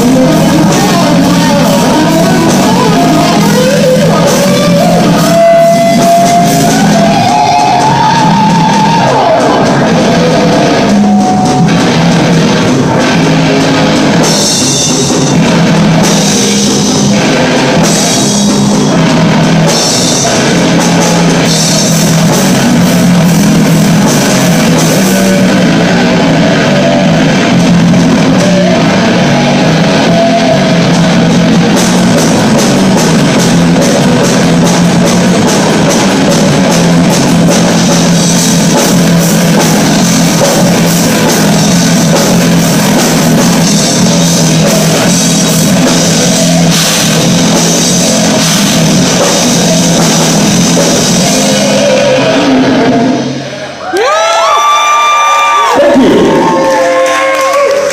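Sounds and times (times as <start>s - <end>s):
distorted electric guitars: 0.0s - 57.9s
drum kit: 0.0s - 57.9s.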